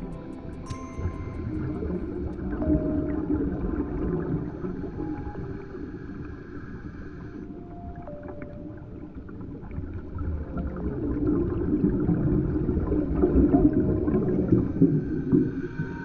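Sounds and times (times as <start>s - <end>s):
underwater bubbles gurgling: 1.4s - 16.0s.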